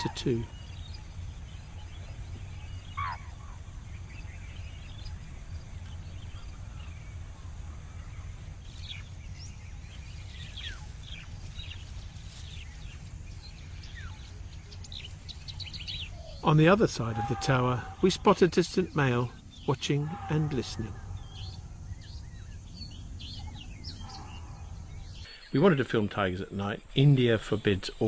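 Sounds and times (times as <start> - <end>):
bird calls: 0.0 - 28.0.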